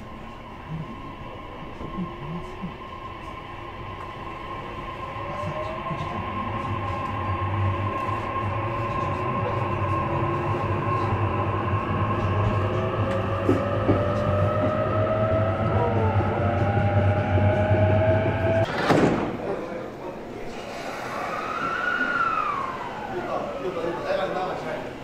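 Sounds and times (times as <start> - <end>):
train traction motors whining: 0.0 - 18.8, 20.0 - 25.0
train wheels rumbling on rails: 0.0 - 24.9.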